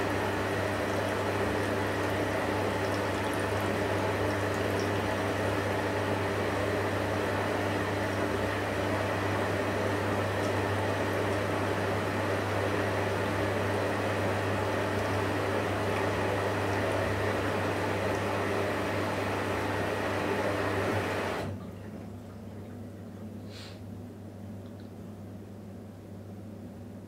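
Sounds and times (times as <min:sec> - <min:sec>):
water and laundry sloshing: 0:00.0 - 0:23.2
washing machine motor hum: 0:00.0 - 0:27.0.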